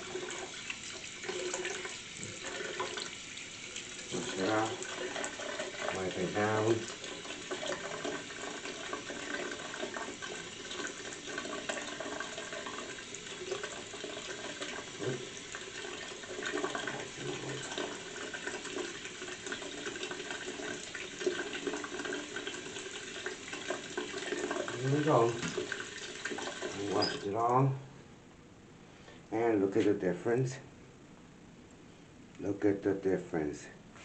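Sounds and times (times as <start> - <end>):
sink tap running: 0.0 - 27.5.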